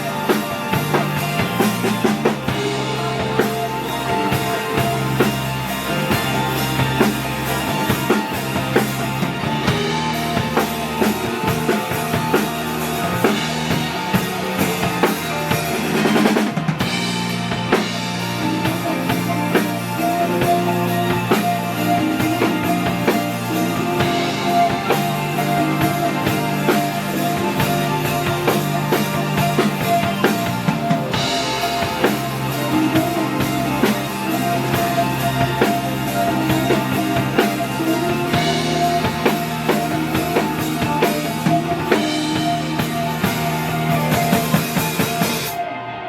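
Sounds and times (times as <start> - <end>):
drum kit: 0.0 - 46.0
live band playing: 0.0 - 46.0.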